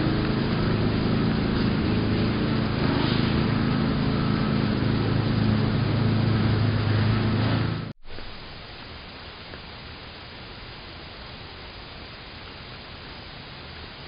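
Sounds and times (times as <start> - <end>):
low mechanical hum: 0.0 - 14.0
noisy hiss: 0.0 - 14.0.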